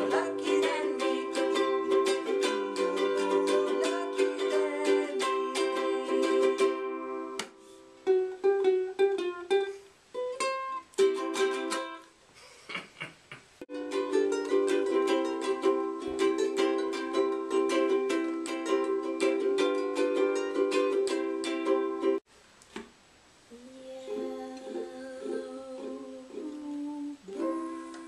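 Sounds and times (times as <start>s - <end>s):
ukulele chord strumming: 0.0s - 12.1s, 13.7s - 22.2s, 24.0s - 28.0s
ukulele plucked notes: 0.0s - 12.1s, 13.7s - 22.2s, 24.0s - 28.0s.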